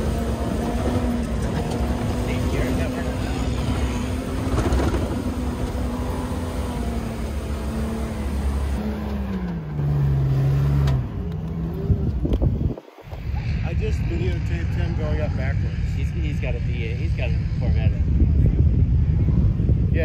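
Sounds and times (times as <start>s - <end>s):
jeep engine running: 0.0s - 20.0s.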